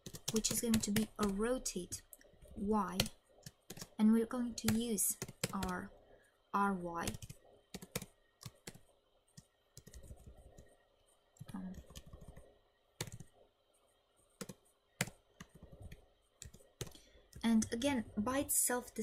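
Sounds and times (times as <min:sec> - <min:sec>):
keyboard typing: 0:00.0 - 0:05.9, 0:06.9 - 0:10.8, 0:11.4 - 0:13.4, 0:14.3 - 0:18.2.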